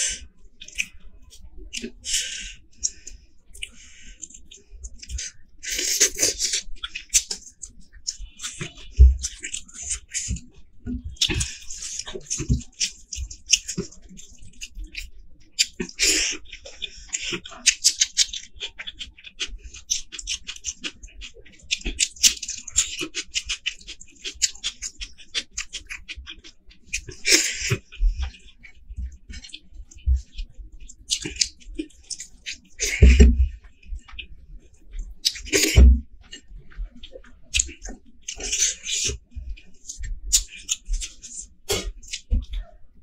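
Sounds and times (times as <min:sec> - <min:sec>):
small clicks and crackles: 0:00.0 - 0:43.0
wet chewing and lip smacks: 0:00.5 - 0:42.8
fingers squishing food: 0:01.6 - 0:42.8.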